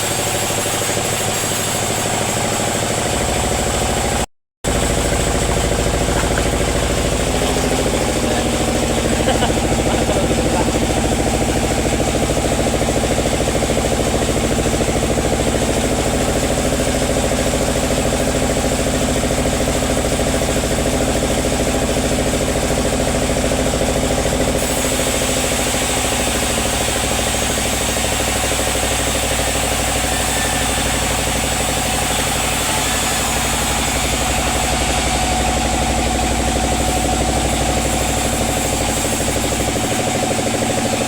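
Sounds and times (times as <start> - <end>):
sawmill machinery drone: 0.0 - 41.0.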